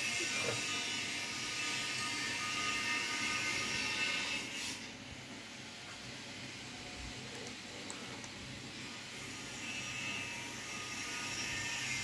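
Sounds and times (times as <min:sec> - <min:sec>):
cooling fans whirring: 0:00.0 - 0:12.0.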